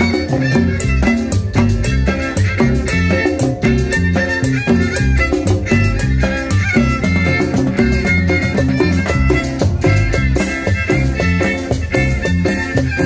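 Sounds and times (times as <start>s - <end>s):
conga drums: 0.0s - 13.0s
latin dance band playing: 0.0s - 13.0s.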